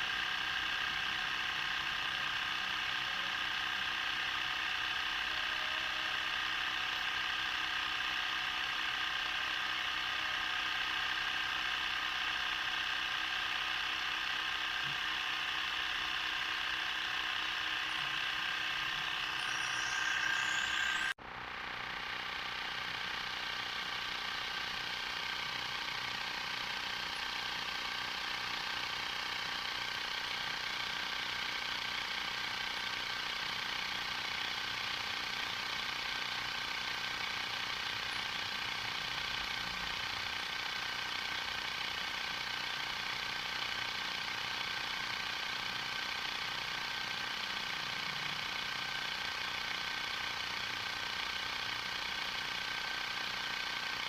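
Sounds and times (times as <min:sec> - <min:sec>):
tyre inflator compressor running: 0:00.0 - 0:54.0.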